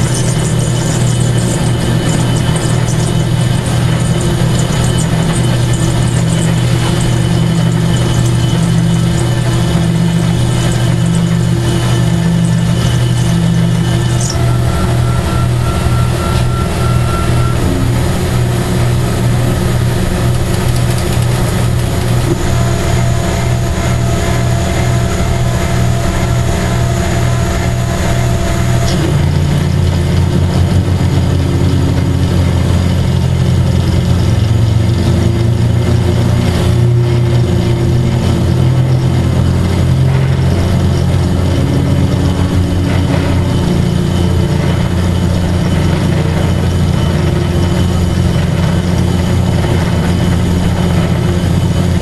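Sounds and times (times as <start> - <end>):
milling machine motor hum: 0.0 - 52.0.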